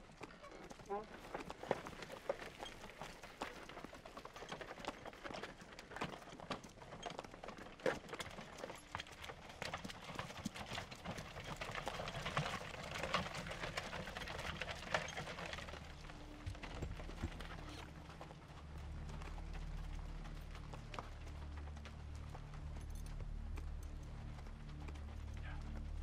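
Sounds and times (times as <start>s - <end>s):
cart wheels rattling over stones: 0.0s - 26.0s
horse hooves clip-clopping: 0.0s - 26.0s.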